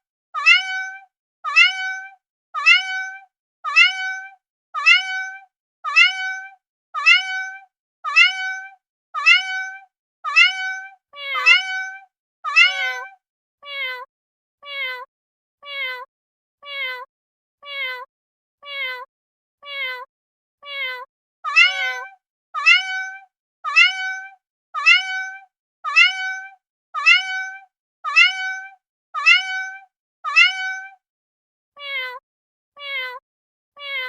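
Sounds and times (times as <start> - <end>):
cat meowing: 0.4 - 31.0, 31.8 - 32.2, 32.8 - 33.2, 33.8 - 34.0.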